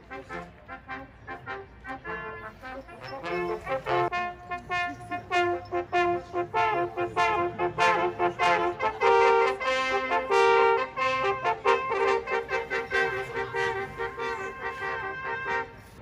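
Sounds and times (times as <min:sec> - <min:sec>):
brass hunting music: 0:00.0 - 0:16.0.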